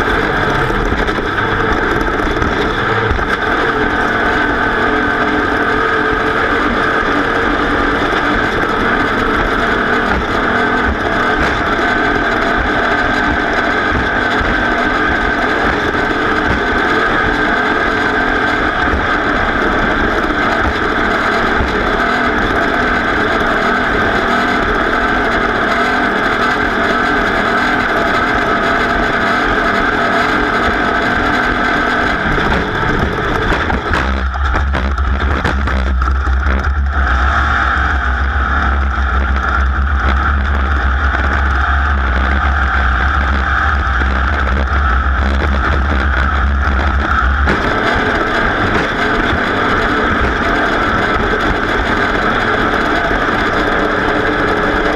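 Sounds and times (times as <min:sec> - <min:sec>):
vehicle engine running hard: 0:00.0 - 0:54.9.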